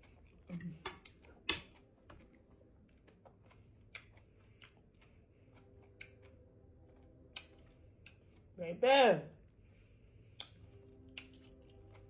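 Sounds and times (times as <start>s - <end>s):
quiet chewing: 0.0s - 8.6s, 9.6s - 12.0s.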